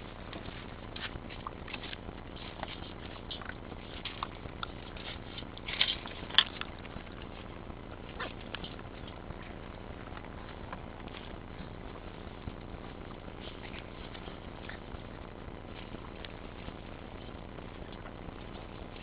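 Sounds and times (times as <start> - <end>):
puppies crunching dry kibble: 0.0 - 19.0.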